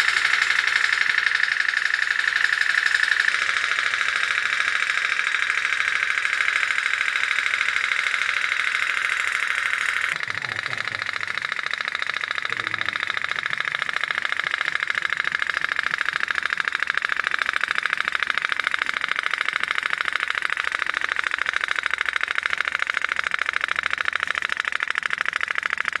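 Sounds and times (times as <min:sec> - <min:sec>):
pop-pop steam engine popping: 0:00.0 - 0:26.0.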